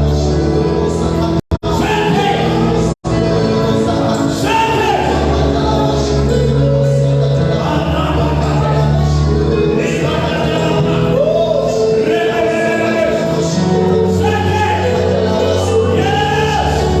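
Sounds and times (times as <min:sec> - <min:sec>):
gospel voices singing: 0:00.0 - 0:17.0.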